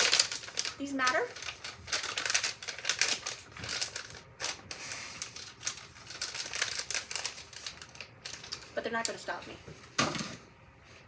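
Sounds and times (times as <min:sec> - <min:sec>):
paper wrapping crinkling: 0:00.0 - 0:09.5.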